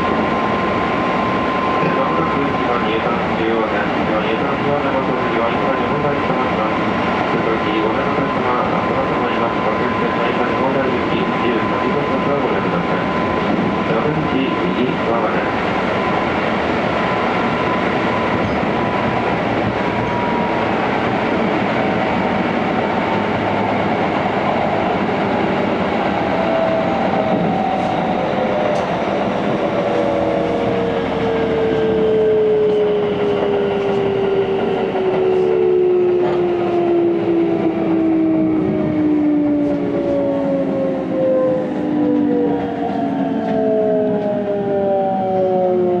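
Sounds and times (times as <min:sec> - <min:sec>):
train wheel and rail noise: 0:00.0 - 0:46.0.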